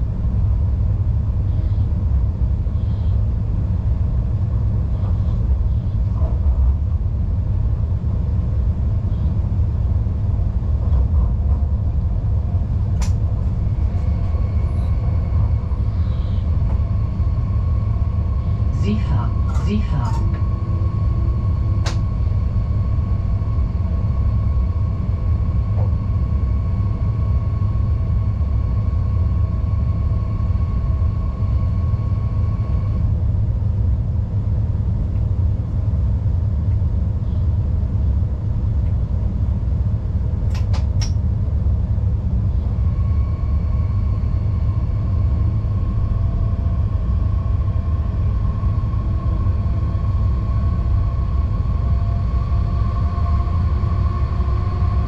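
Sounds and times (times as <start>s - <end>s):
locomotive running rumble: 0.0s - 55.0s.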